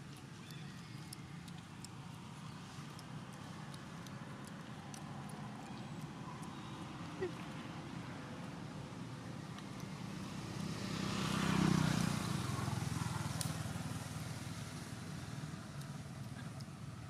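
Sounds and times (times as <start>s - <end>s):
motor vehicle passing by: 0.0s - 17.0s.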